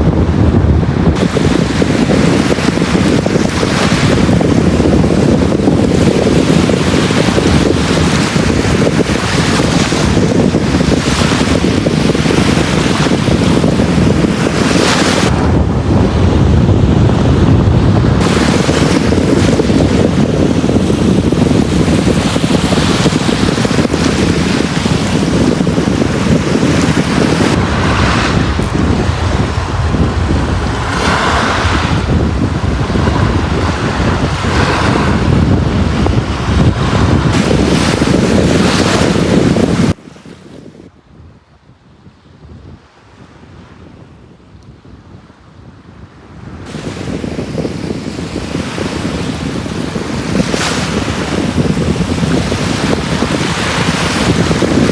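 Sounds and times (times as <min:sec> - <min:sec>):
wind buffeting microphone: 0:00.0 - 0:54.9
sea waves breaking on beach: 0:00.9 - 0:16.4, 0:18.0 - 0:40.8, 0:46.6 - 0:54.9.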